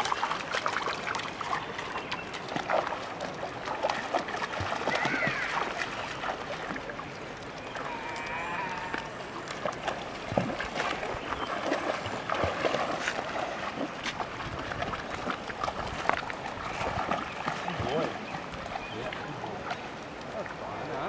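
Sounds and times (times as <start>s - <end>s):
river water sloshing and splashing: 0.0s - 21.0s.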